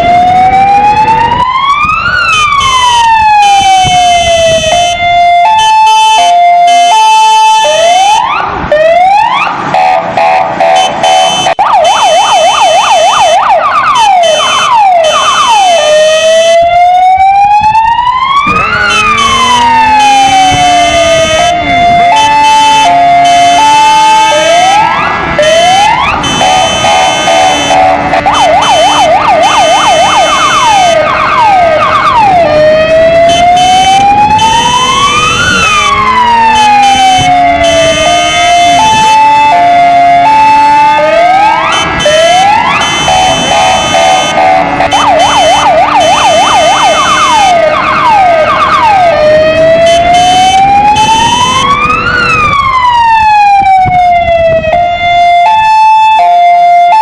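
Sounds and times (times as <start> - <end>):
electronic siren cycling tones: 0.0 - 57.0.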